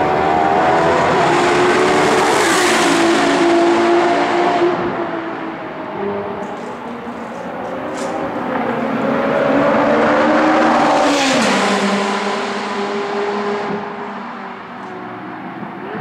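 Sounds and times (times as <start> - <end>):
sports car passing at speed: 0.0 - 16.0.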